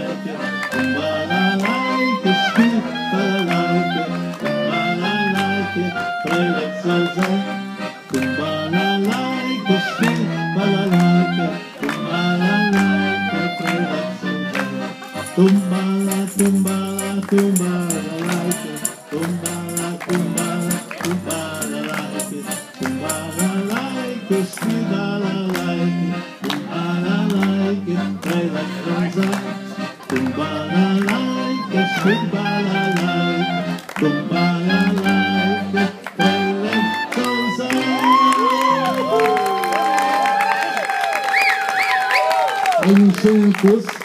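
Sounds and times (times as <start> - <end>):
music with singing: 0.0 - 39.9.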